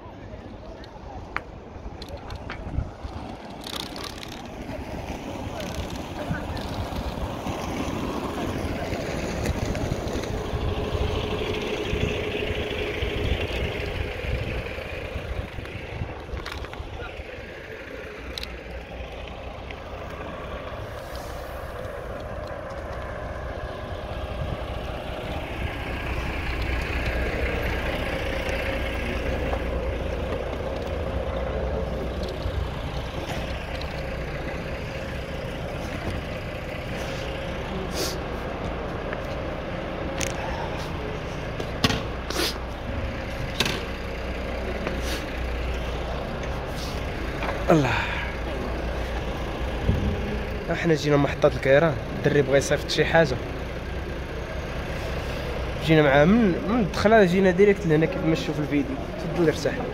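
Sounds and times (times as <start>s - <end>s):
heavy vehicle engine rumble: 0.0s - 59.9s
traffic: 0.0s - 59.9s.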